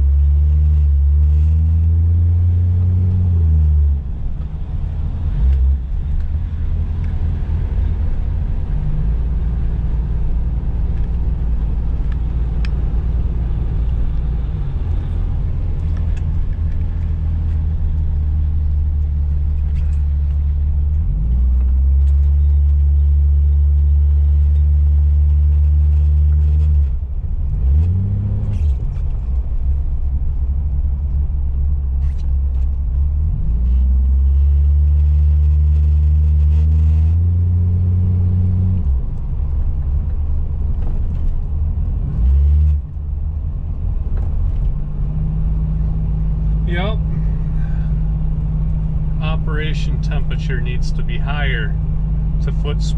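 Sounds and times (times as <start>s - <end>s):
car engine from inside cabin: 0.0s - 52.9s.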